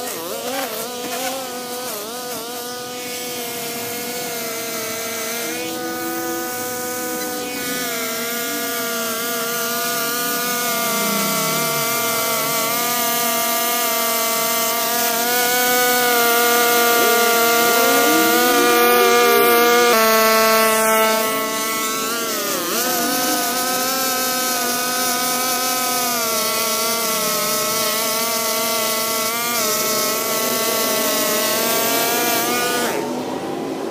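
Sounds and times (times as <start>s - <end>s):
string trimmer cutting grass: 0.0s - 33.6s.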